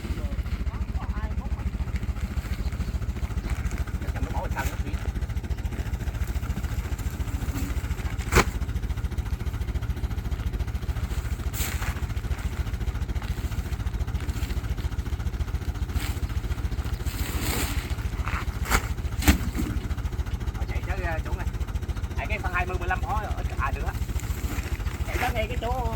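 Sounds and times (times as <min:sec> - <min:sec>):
small engine puttering: 0:00.0 - 0:25.9.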